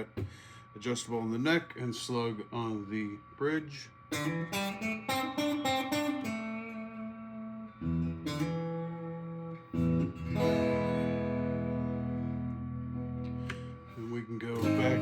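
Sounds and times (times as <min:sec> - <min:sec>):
electric guitar chords ringing: 0:00.0 - 0:15.0.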